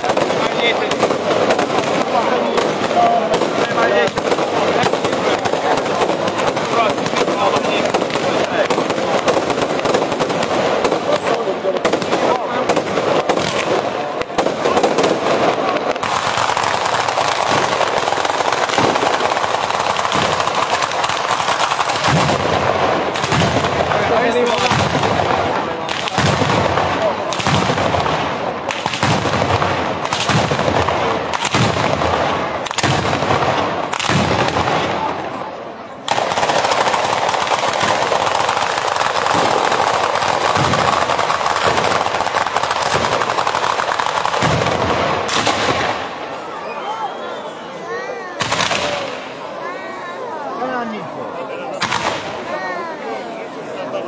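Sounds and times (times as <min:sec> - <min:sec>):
heavier firecracker bangs: 0:00.0 - 0:35.4, 0:36.0 - 0:46.5, 0:48.4 - 0:49.5, 0:51.8 - 0:52.5
firecrackers rapid volley: 0:00.0 - 0:54.0.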